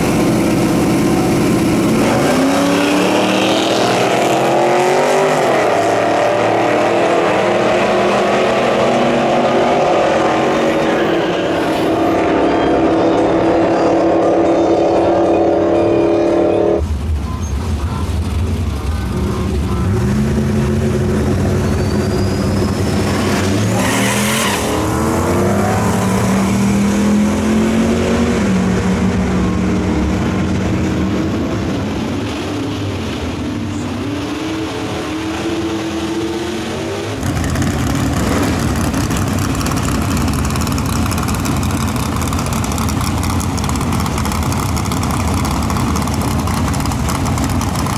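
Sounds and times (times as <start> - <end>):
rough engine rumble: 0.0 - 5.3, 10.5 - 23.8, 24.5 - 47.9
car engine at full throttle: 0.0 - 47.9
engine shifting through gears: 0.0 - 47.9.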